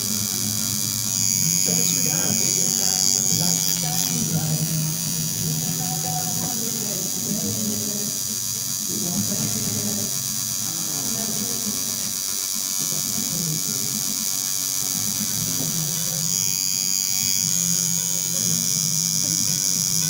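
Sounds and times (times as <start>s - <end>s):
tattoo machine buzzing: 0.0s - 20.0s.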